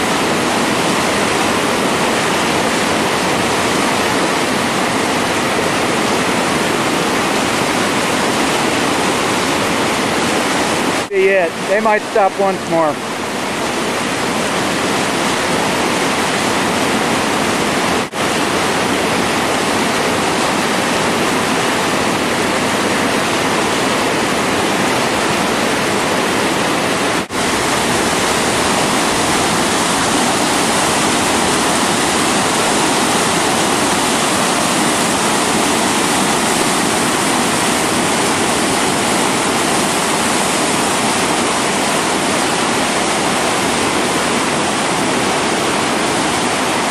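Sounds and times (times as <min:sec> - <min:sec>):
rapids rushing over boulders: 0:00.0 - 0:46.9.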